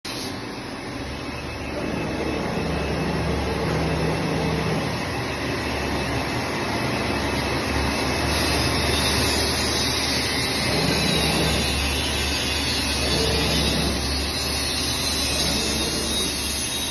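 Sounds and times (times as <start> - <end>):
cutting machine noise: 1.2 - 16.9.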